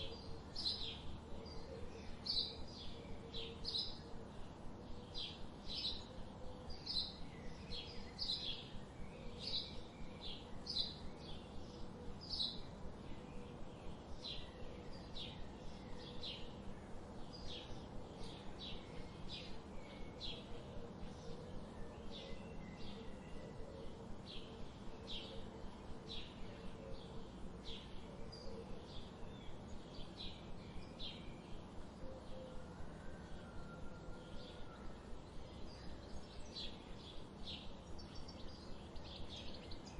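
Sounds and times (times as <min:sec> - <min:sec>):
low background hiss: 0:00.0 - 0:39.9.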